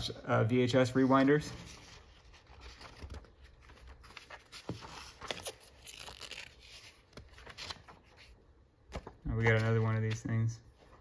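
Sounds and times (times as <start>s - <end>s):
magazine pages rustling: 1.6s - 11.0s.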